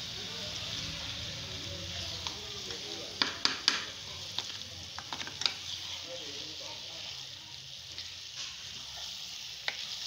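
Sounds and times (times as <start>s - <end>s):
dal sizzling in a pot: 0.0s - 10.0s.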